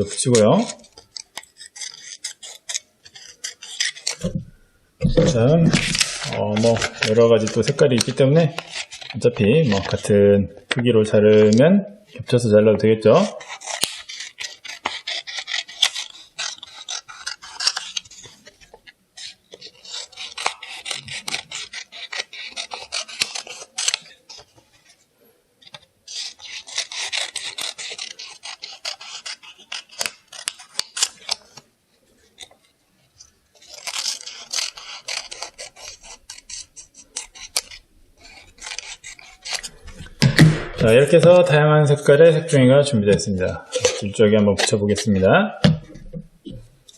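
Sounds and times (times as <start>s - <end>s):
scissors cutting paper: 0.0s - 4.4s, 5.0s - 11.6s, 13.1s - 25.0s, 25.6s - 31.7s, 32.3s - 41.4s, 43.1s - 45.1s.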